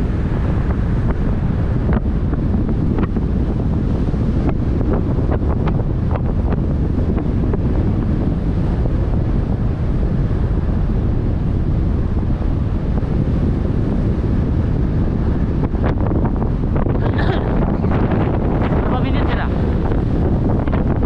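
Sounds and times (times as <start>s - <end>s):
boat rumble: 0.0s - 21.0s
wind buffeting microphone: 0.0s - 21.0s.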